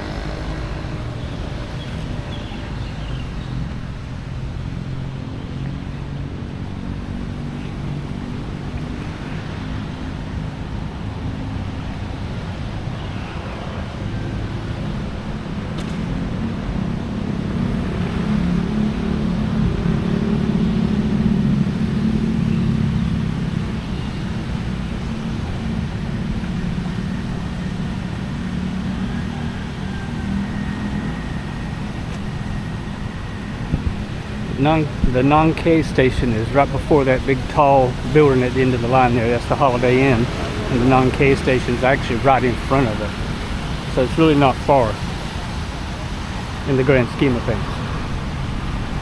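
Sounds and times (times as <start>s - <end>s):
traffic noise: 0.0s - 49.0s
vehicle engine hum: 0.0s - 49.0s.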